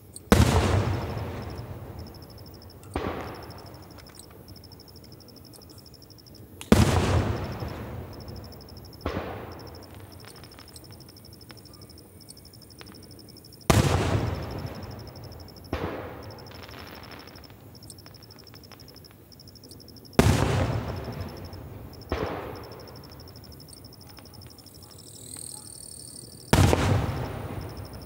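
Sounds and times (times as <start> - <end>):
fireworks booming with echo: 0.2 - 5.0, 6.5 - 11.6, 12.7 - 25.5, 26.4 - 28.0.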